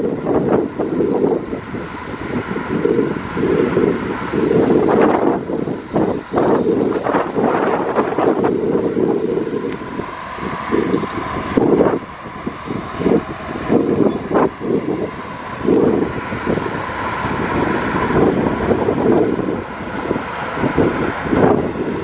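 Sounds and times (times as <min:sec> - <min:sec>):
heavy machinery diesel engine: 0:00.0 - 0:22.0
steady whine: 0:00.0 - 0:22.0.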